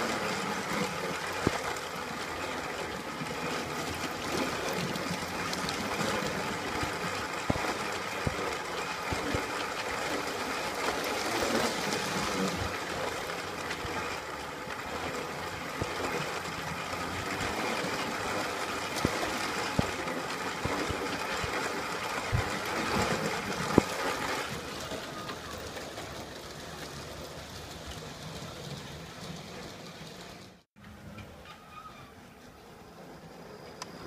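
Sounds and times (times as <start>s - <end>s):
model train motor whirring: 0.0s - 30.6s.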